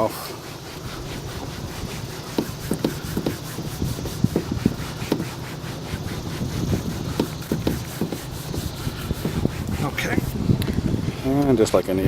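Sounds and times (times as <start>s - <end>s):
cloth rubbing on plastic: 0.0s - 10.5s.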